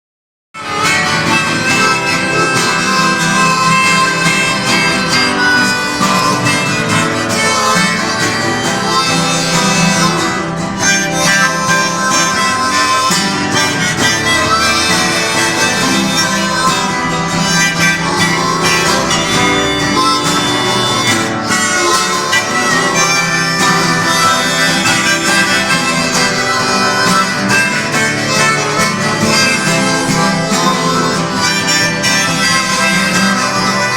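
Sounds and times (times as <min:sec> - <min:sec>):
guitar: 0:00.5 - 0:33.9
harmonica: 0:00.6 - 0:33.9.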